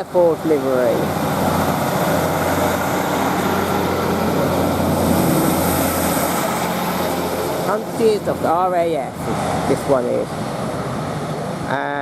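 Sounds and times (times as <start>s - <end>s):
diesel train engine droning: 0.0s - 12.0s.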